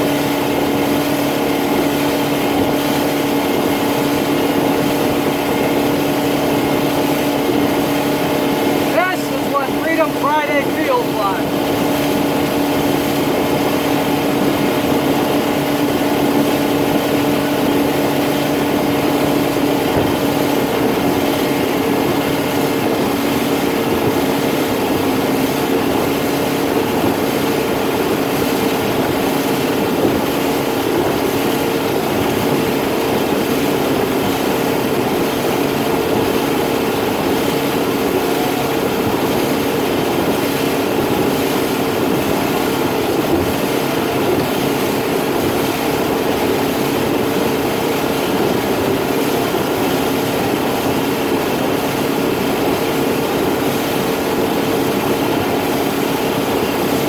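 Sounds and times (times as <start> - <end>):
boat motor humming: 0.0 - 57.0.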